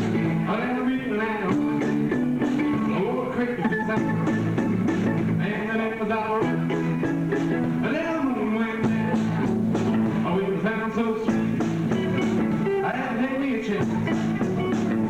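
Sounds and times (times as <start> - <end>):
bass guitar: 0.0 - 15.0
drums: 0.0 - 15.0
electric guitar: 0.0 - 15.0.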